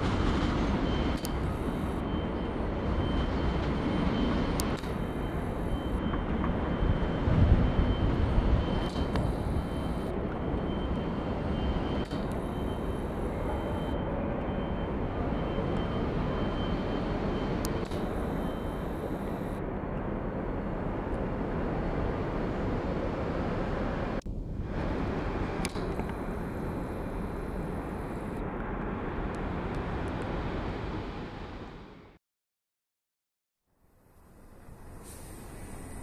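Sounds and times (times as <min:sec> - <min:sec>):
railway station platform rumble: 0:00.0 - 0:32.2, 0:34.0 - 0:36.0.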